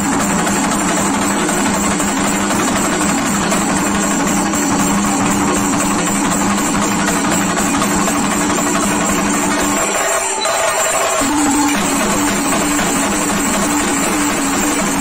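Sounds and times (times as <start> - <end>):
drumming: 0.0 - 15.0.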